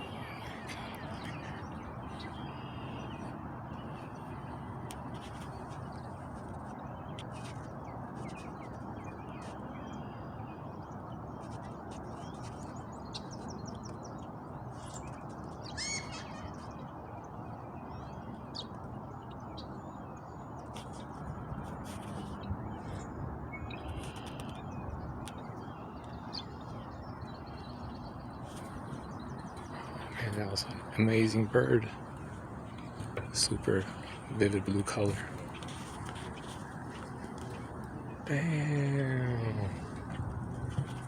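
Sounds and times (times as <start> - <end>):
low rushing background noise: 0.0 - 41.0
wild birds chirping: 0.0 - 41.0.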